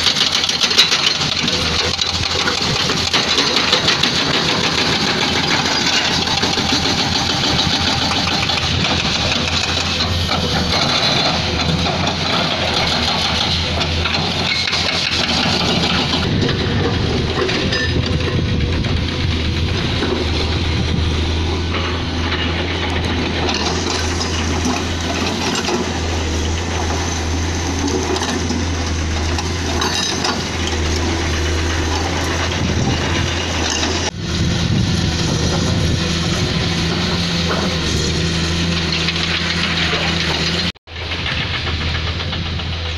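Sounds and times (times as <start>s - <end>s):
diesel engine running: 0.0s - 42.9s
hydraulic breaker hammering rock: 0.0s - 42.9s.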